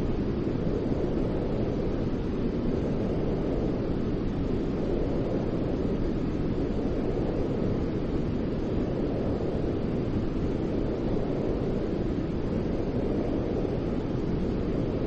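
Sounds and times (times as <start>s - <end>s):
deep muffled white noise: 0.0s - 15.0s.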